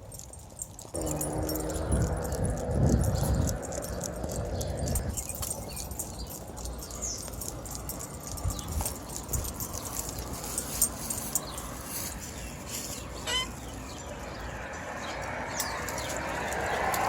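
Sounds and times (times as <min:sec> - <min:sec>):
dog tags and leash jingling: 0:00.0 - 0:17.0.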